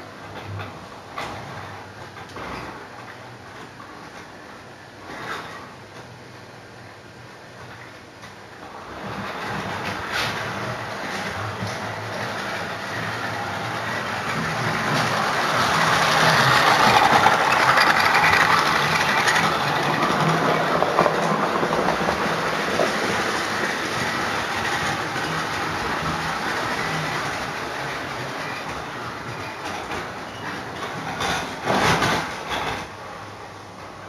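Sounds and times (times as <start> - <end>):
wheels rattling on rails: 0.0 - 34.0.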